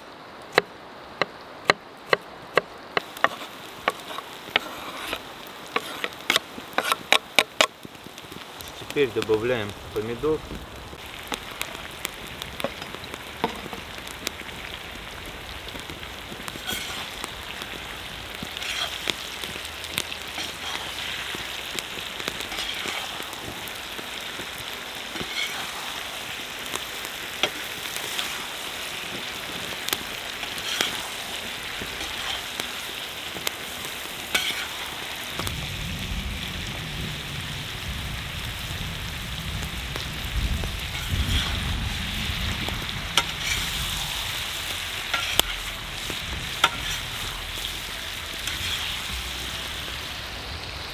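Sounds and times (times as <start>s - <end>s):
food sizzling in a metal pan: 3.0s - 50.9s.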